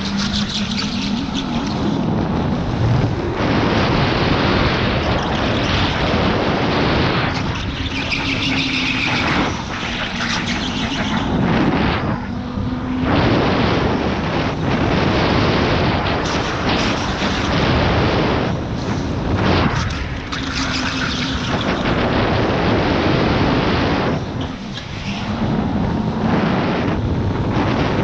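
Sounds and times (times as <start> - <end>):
wind buffeting: 0.0 - 28.0.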